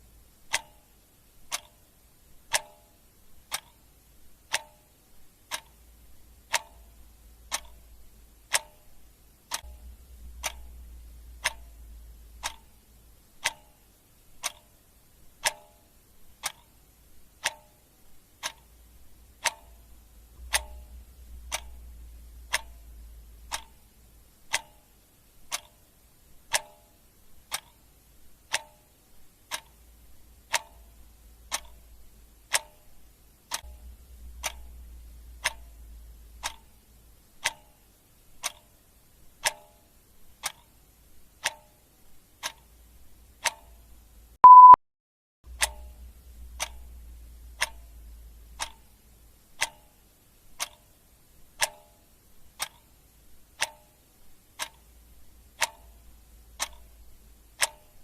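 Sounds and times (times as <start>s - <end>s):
clock ticking: 0.4s - 44.8s, 45.5s - 58.0s.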